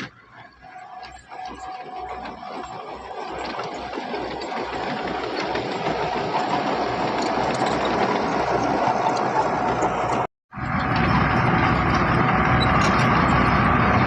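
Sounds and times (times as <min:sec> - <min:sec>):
heavy machinery diesel engine: 0:00.0 - 0:14.0.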